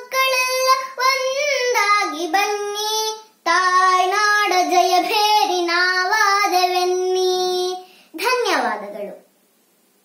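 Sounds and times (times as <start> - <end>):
girl singing: 0.0 - 9.2.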